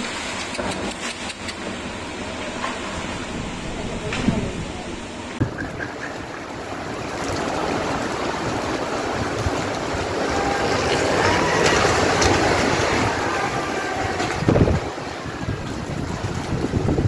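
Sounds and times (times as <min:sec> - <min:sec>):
heavy rain: 0:00.0 - 0:17.0
storm wind: 0:00.0 - 0:17.0.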